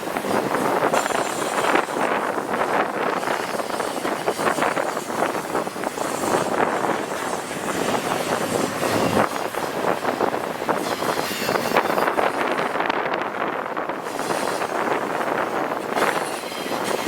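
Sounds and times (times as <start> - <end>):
freight train cars rolling: 0.0 - 17.0
wheels clicking and clattering: 0.0 - 17.0.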